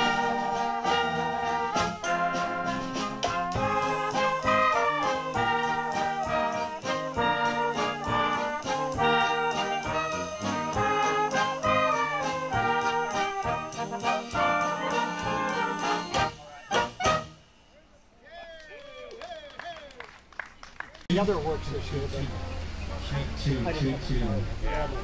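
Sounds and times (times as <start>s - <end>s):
brass band music: 0.0s - 17.8s, 21.1s - 25.0s.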